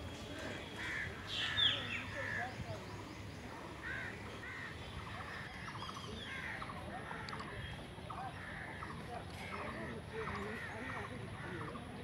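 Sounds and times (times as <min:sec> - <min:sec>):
birds calling and chattering: 0:00.0 - 0:12.0.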